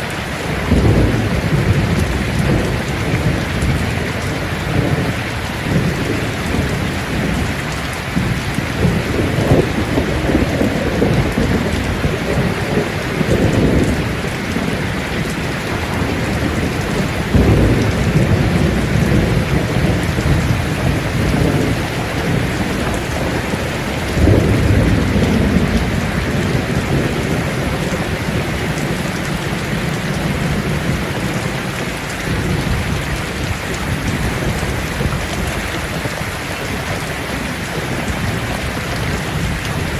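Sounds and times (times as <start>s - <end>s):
heavy rain on leaves: 0.0s - 39.9s
low thunder rumbles: 0.0s - 39.9s.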